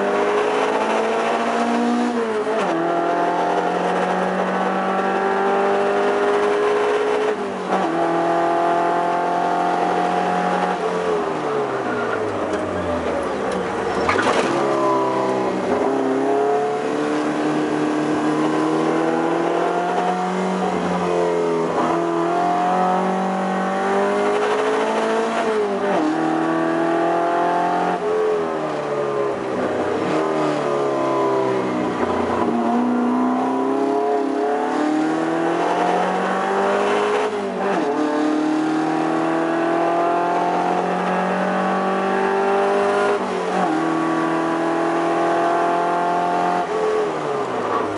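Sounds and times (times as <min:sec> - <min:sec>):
race car engine revving hard: 0:00.0 - 0:11.7, 0:14.2 - 0:47.9.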